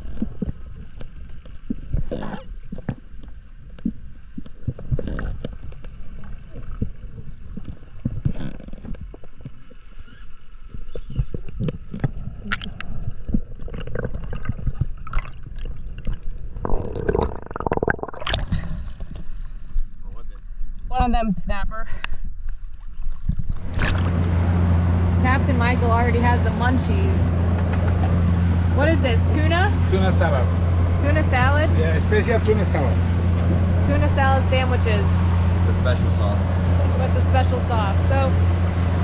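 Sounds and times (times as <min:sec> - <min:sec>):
water sloshing: 0:00.0 - 0:19.7, 0:22.6 - 0:39.0
underwater rumble and gurgling: 0:00.0 - 0:21.0, 0:22.1 - 0:39.0.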